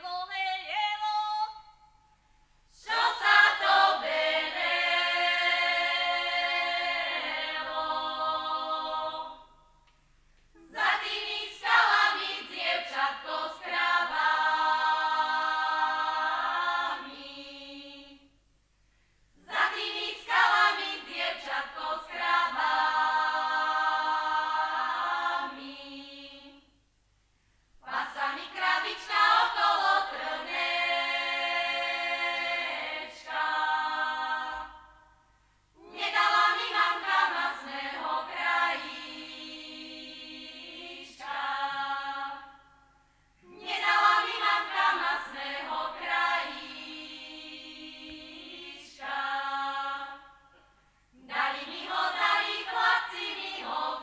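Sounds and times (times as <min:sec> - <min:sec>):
women singing unaccompanied: 0:02.8 - 0:09.6, 0:10.6 - 0:18.3, 0:19.4 - 0:26.7, 0:27.8 - 0:35.0, 0:35.8 - 0:42.6, 0:43.4 - 0:50.4, 0:51.2 - 0:54.0.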